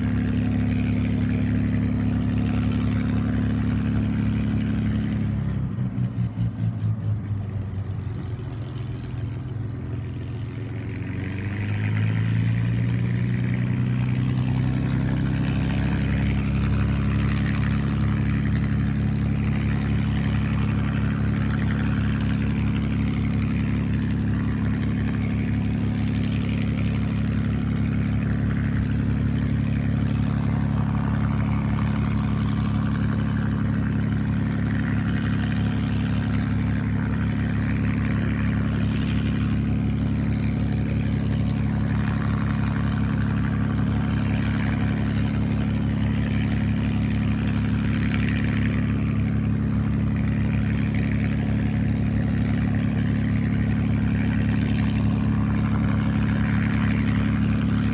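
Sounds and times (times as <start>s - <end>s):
aircraft engine idling: 0.0s - 57.9s.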